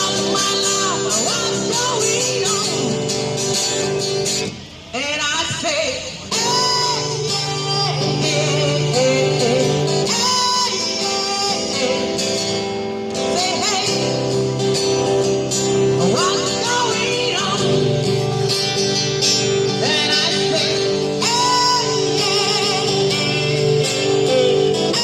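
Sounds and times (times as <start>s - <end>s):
person singing: 0.0s - 3.4s, 5.0s - 14.6s, 15.8s - 25.0s
guitar chords: 0.0s - 4.8s, 6.2s - 25.0s.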